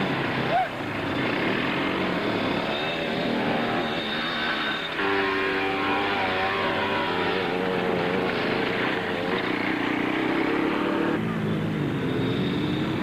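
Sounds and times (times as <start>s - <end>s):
quad bike engines revving: 0.0s - 13.0s.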